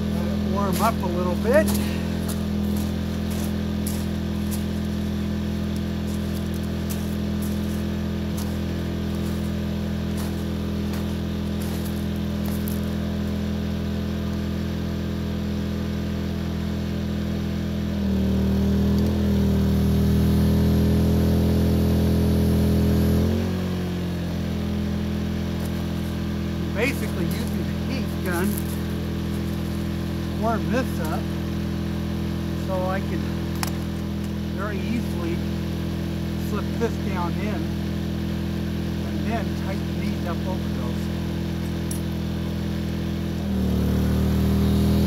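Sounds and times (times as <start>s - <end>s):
portable generator running: 0.0s - 45.0s.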